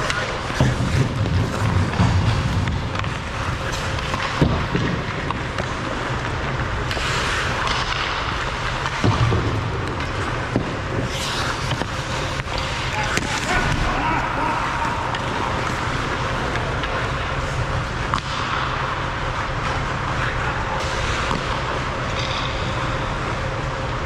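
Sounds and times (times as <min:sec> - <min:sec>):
hockey sticks and puck clacking: 0:00.0 - 0:24.0
skate blades scraping ice: 0:00.0 - 0:24.0.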